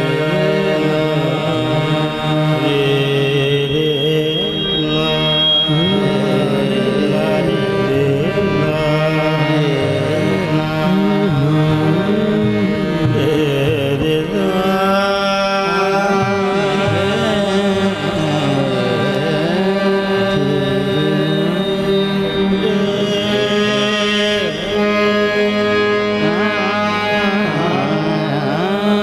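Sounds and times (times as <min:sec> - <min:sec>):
lead voice singing: 0:00.0 - 0:26.6
harmonium drone: 0:00.0 - 0:29.0.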